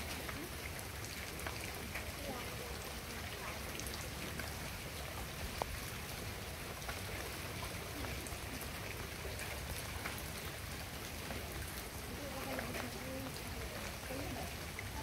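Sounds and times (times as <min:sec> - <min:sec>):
rain falling onto water: 0:00.0 - 0:15.0.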